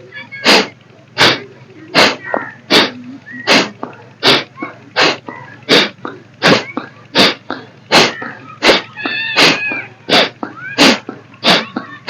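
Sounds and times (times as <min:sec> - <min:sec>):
forceful nasal exhalations: 0:00.4 - 0:11.9.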